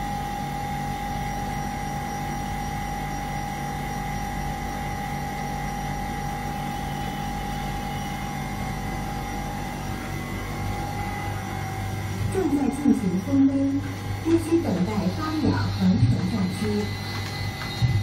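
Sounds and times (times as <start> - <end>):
juice machine whine and hum: 0.0 - 18.0.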